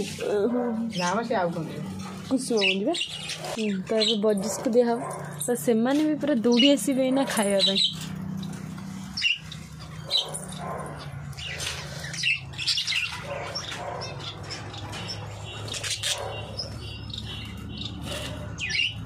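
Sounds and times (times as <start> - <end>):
budgerigars chirping: 0.0 - 5.2, 5.9 - 19.0.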